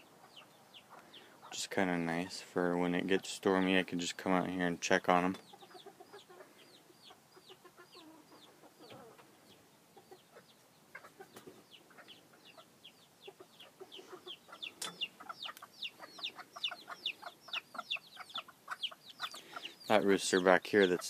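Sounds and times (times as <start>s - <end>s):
hen clucking: 0.0s - 2.2s, 5.0s - 21.0s
chicks peeping: 0.0s - 21.0s.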